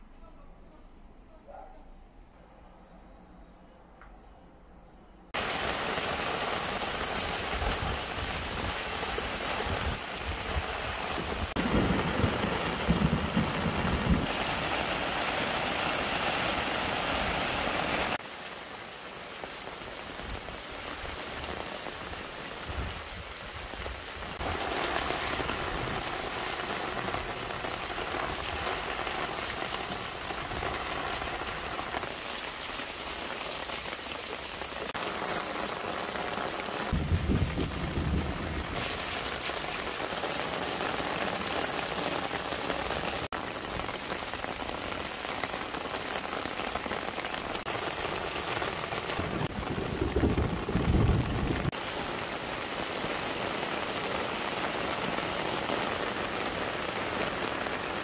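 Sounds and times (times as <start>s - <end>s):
heavy rain hissing: 5.4s - 58.0s.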